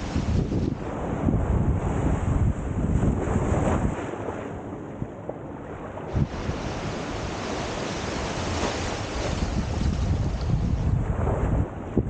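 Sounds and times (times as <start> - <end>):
small waves washing on sand: 0.0 - 4.9, 5.6 - 11.9
wind buffeting the microphone: 0.0 - 12.0.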